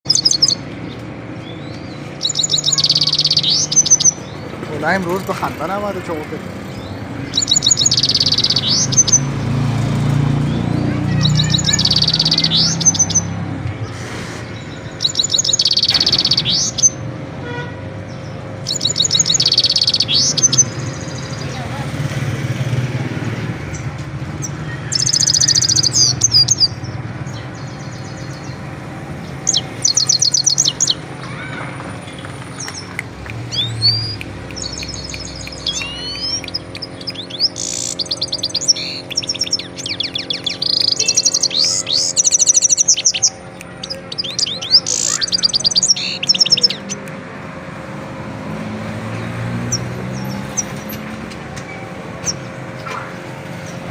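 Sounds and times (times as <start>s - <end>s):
finch singing: 0.0s - 17.0s, 18.1s - 21.9s, 23.7s - 47.1s.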